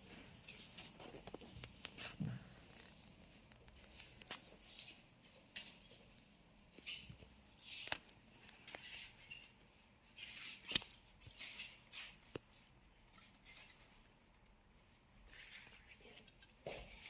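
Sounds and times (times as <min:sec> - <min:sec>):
rustling and scraping: 0:00.0 - 0:17.0.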